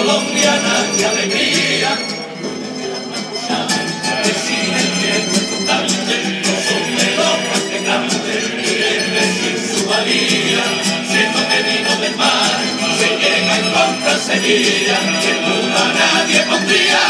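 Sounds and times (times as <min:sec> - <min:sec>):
guitars strumming: 0:00.0 - 0:17.0
men's choir singing: 0:00.0 - 0:17.0.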